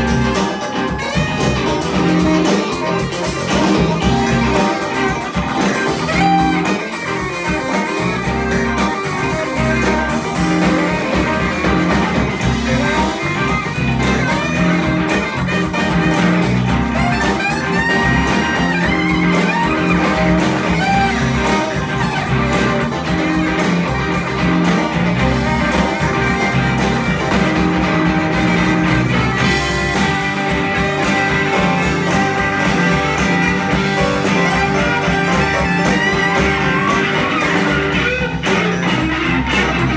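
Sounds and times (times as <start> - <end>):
lead guitar: 0.0 - 39.9
live blues band playing: 0.0 - 39.9.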